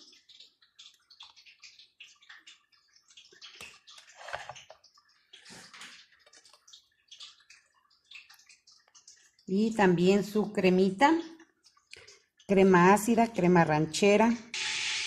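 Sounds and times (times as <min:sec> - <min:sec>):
oil crackling in a frying pan: 0:00.0 - 0:15.0.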